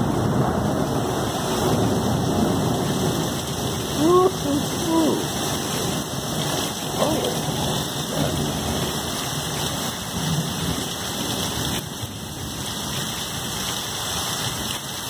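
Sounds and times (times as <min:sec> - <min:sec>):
low thunder rumbling: 0:00.0 - 0:13.6
heavy rain pouring: 0:00.0 - 0:15.0.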